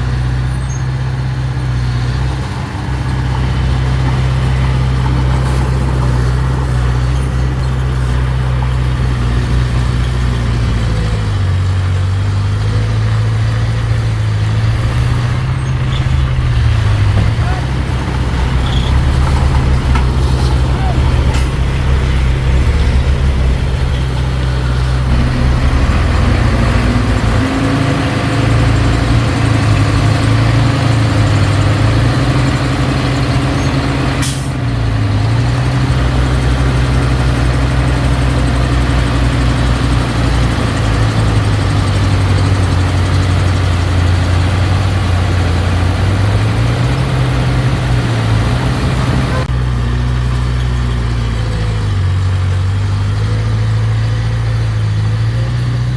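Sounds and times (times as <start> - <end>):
heavy diesel engine running hard: 0.0 - 55.9.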